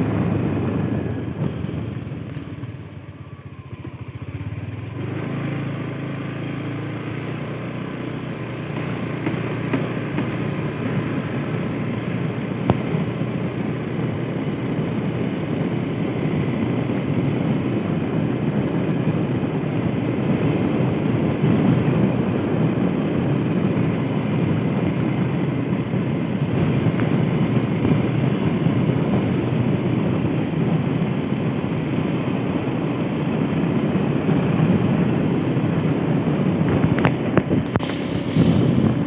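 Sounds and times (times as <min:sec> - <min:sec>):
wind rushing past microphone: 0:00.0 - 0:06.7, 0:08.6 - 0:39.0
motorcycle engine running: 0:00.0 - 0:39.0
road noise: 0:00.0 - 0:39.0.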